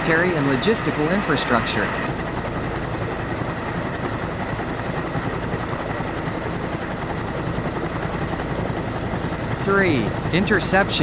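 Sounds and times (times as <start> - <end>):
aircraft engine rumbling: 0.0 - 11.0
high engine whine: 0.0 - 11.0.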